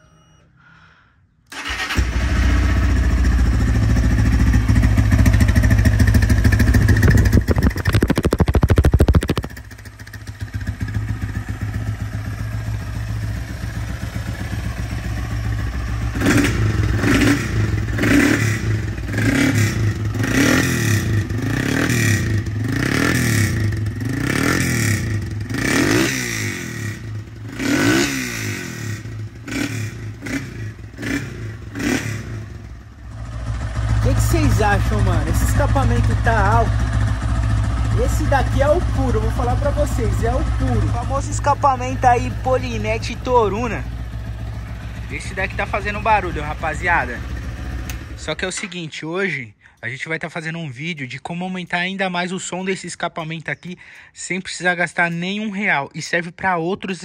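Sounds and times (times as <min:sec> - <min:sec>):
motorcycle engine revving: 0:01.5 - 0:48.7.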